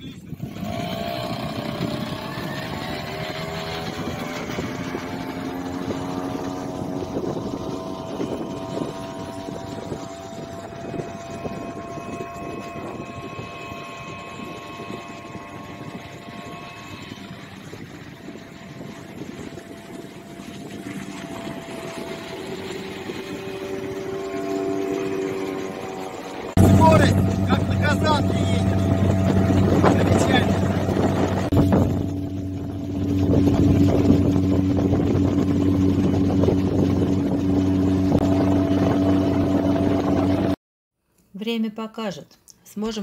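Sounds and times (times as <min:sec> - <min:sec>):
outboard motor running: 0:00.0 - 0:40.6.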